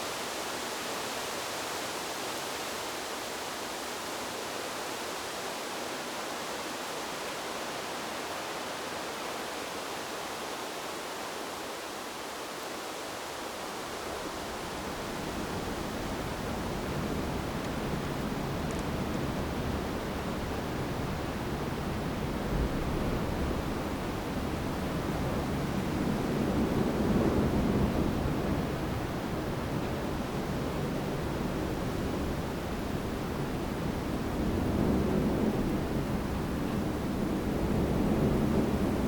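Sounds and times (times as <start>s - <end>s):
wind through bamboo: 0.0s - 39.0s.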